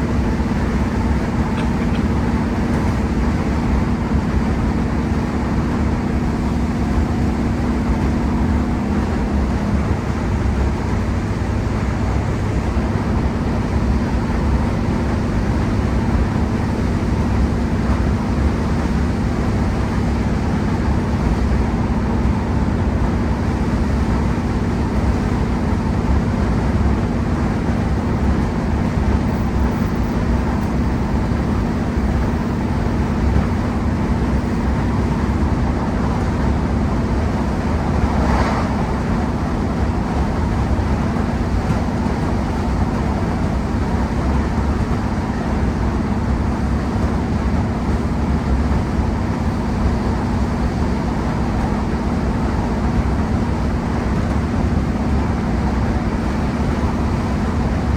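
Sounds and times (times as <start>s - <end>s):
train diesel engine drone: 0.0s - 57.9s.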